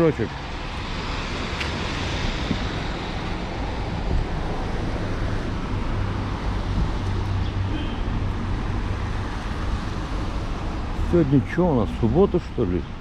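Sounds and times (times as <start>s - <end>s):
cars on a wet road: 0.0s - 13.0s.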